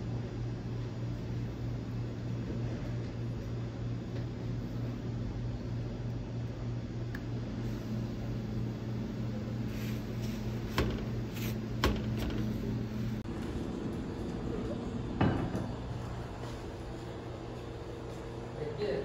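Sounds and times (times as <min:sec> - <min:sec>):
kitchen equipment humming: 0:00.0 - 0:19.0.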